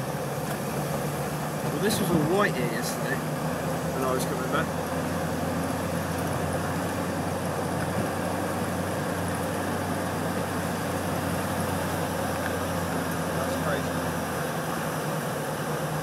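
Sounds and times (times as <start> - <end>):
car engine droning inside cab: 0.0 - 16.0
road noise: 0.0 - 16.0.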